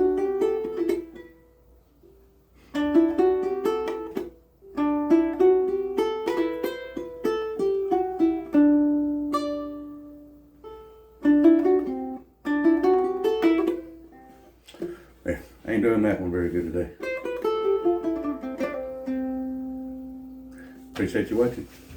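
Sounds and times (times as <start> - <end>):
ukulele picked melody: 0.0 - 21.9.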